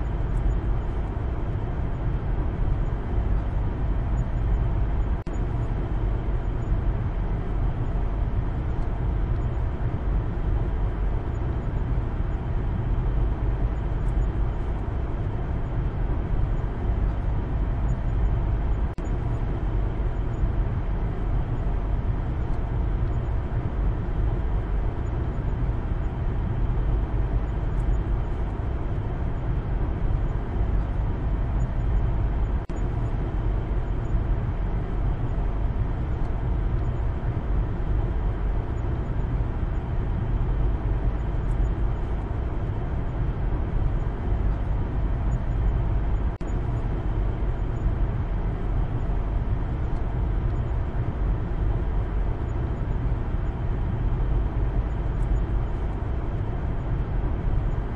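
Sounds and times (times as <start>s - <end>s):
car cabin road and engine noise: 0.0s - 57.9s.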